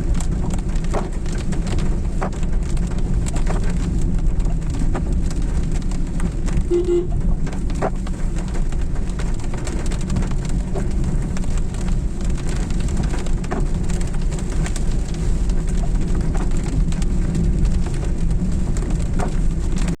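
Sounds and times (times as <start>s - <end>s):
low rumble: 0.0s - 20.0s
steady rain: 0.0s - 20.0s.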